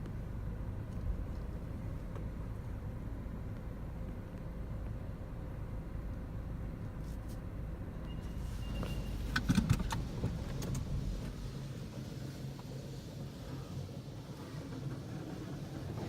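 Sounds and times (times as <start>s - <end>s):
car wash low rumble: 0.0s - 16.0s.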